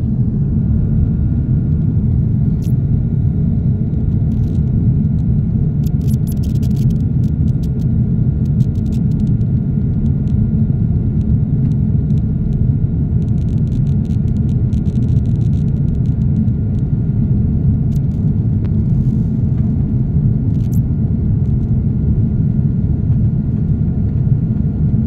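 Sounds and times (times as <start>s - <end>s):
faint thin whine: 0.0s - 25.0s
jet engine cabin rumble: 0.0s - 25.0s.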